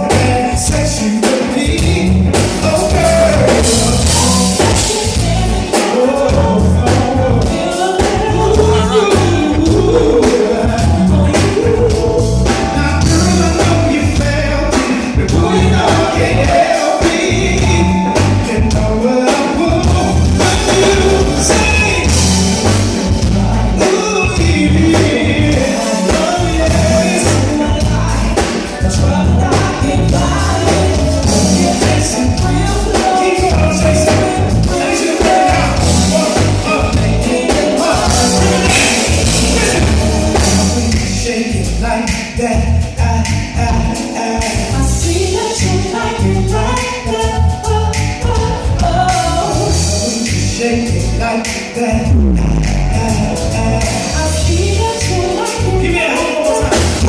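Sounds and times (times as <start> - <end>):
live band playing groove: 0.0 - 57.0
person singing: 0.0 - 57.0.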